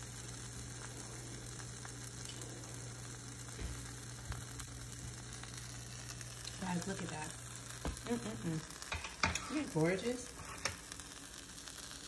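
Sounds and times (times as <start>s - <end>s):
low hum: 0.0s - 12.0s
wrap sizzling in a pan: 0.0s - 12.0s.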